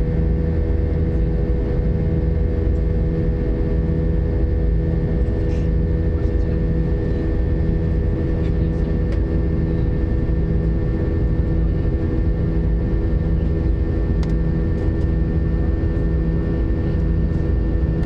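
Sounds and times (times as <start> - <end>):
jet engine cabin drone: 0.0 - 18.0
throbbing low hum: 0.0 - 18.0.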